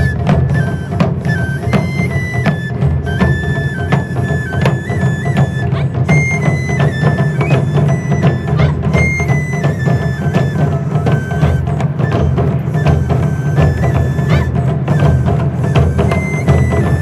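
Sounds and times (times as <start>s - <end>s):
drum ensemble playing: 0.0s - 17.0s
high bamboo flute melody: 0.0s - 17.0s.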